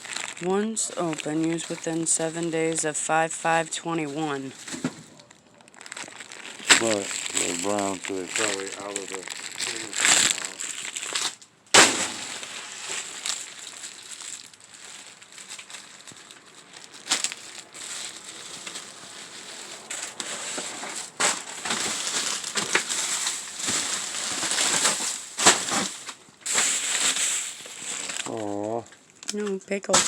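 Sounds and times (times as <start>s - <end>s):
plastic bags rustling: 0.0s - 30.0s.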